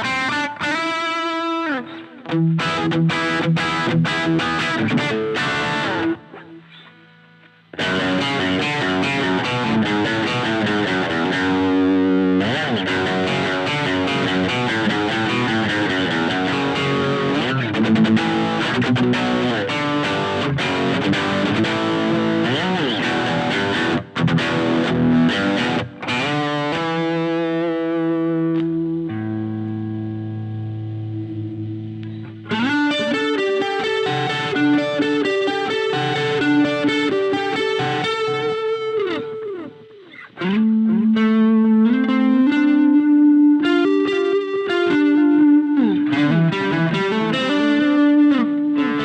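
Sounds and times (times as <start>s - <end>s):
distorted electric guitar: 0.0s - 49.0s.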